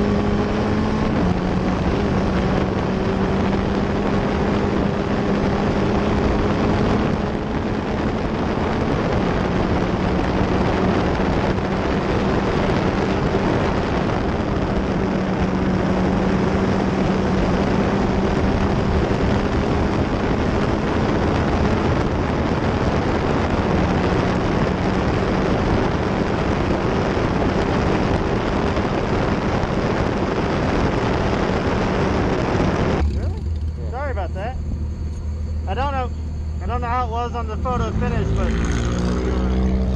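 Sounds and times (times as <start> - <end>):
race car engine at high revs: 0.0 - 39.9
wind rush over microphone: 0.0 - 39.9.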